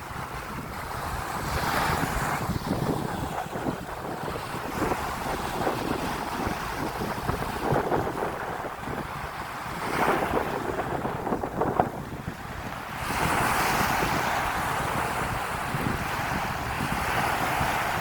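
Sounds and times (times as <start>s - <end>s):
sea surf breaking on shore: 0.0s - 18.0s
wind buffeting microphone: 0.0s - 18.0s.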